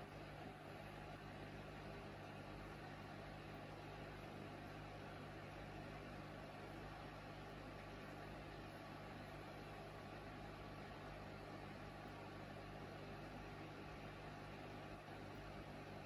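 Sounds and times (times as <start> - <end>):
aerator low hum: 0.0 - 16.0.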